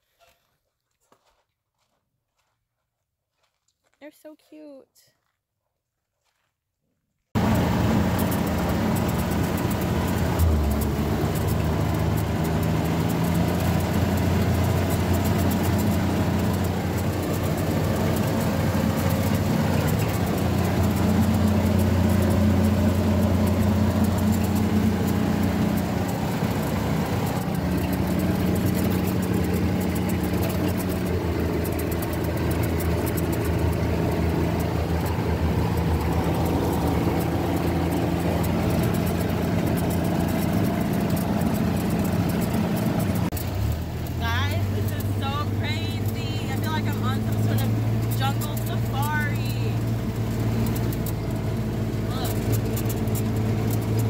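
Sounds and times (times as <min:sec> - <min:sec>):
car engine running: 0:07.4 - 0:54.0
road noise: 0:07.4 - 0:54.0.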